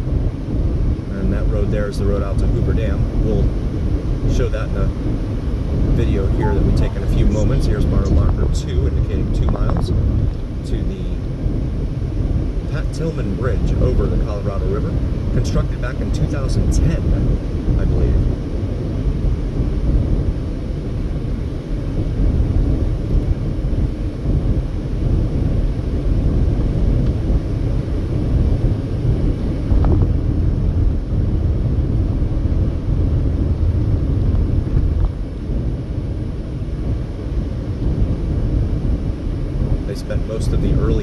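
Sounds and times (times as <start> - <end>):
car engine: 0.0 - 38.5
road and tyre noise: 0.0 - 41.0.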